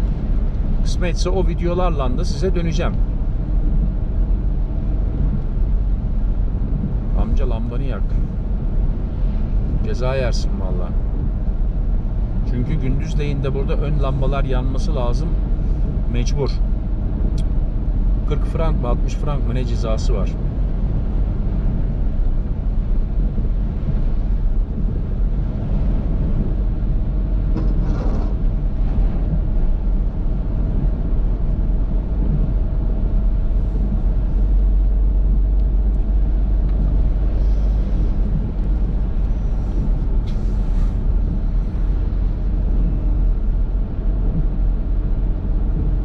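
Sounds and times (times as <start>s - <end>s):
car driving rumble: 0.0s - 46.0s.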